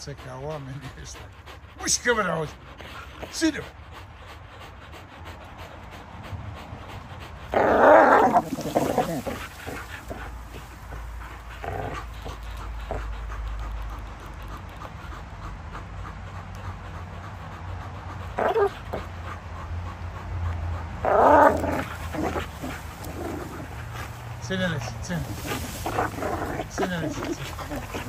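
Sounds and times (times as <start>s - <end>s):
dogs growling: 0.0s - 28.0s
dogs panting: 0.0s - 28.0s.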